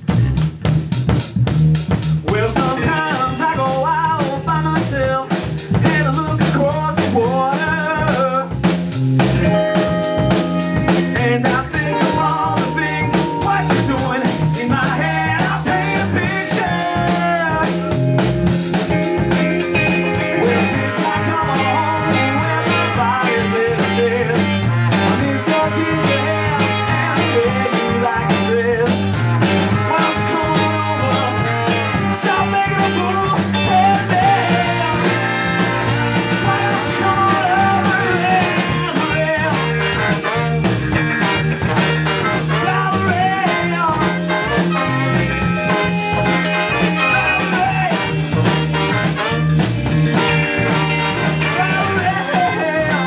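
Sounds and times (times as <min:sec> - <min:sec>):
ska-punk band playing live: 0:00.0 - 0:53.0.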